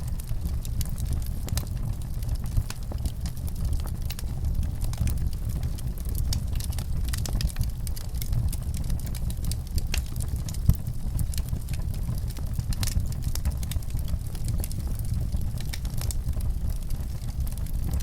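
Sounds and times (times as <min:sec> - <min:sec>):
fire pops: 0:00.0 - 0:18.0
wood fire crackling: 0:00.0 - 0:18.0.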